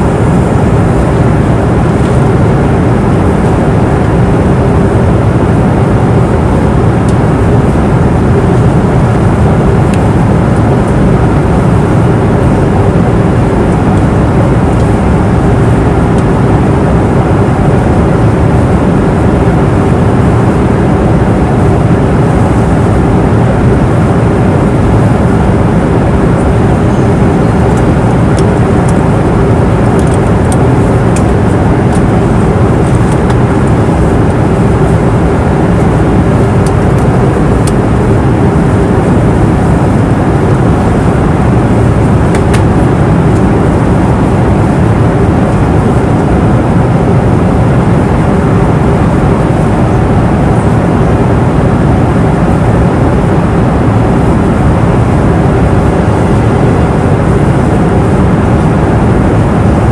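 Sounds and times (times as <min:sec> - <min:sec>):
rush of engines and airflow: 0:00.0 - 0:59.9
steady hum: 0:00.0 - 0:59.9.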